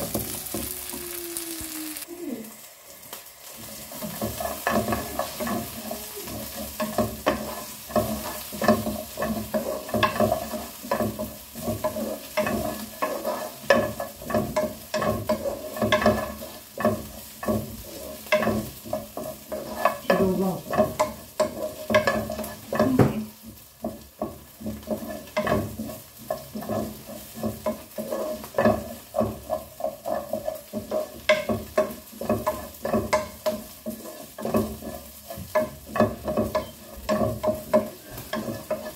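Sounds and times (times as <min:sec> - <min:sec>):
food frying sizzle: 0:00.0 - 0:38.9
spatula scraping frying pan: 0:03.4 - 0:38.9.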